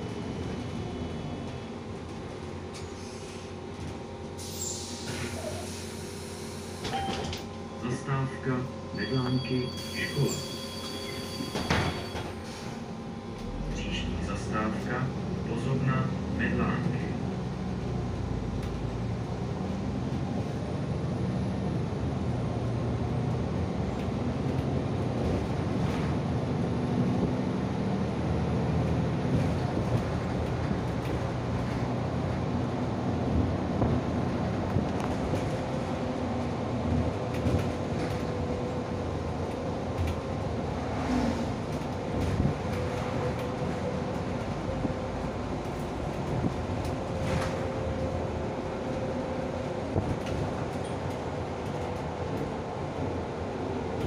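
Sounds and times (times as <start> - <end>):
bus engine and road drone: 0.0 - 54.0.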